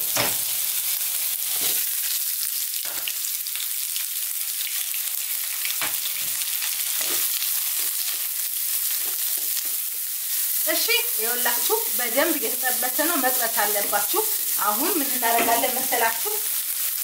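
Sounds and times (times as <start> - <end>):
garlic and onion sizzling in oil: 0.0 - 17.0.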